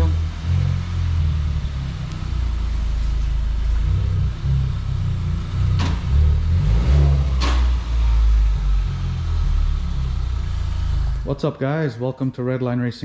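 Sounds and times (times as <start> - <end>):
car engine at low revs: 0.0 - 12.4.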